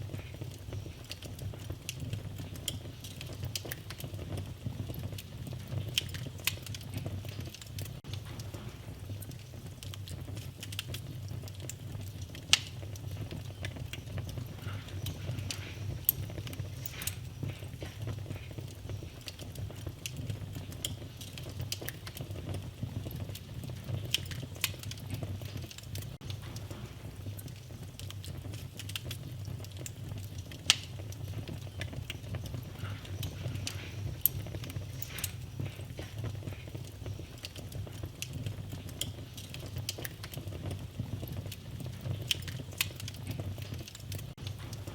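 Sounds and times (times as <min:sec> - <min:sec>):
loud fire pops: 0:00.0 - 0:44.9
wood fire crackling: 0:00.0 - 0:44.9.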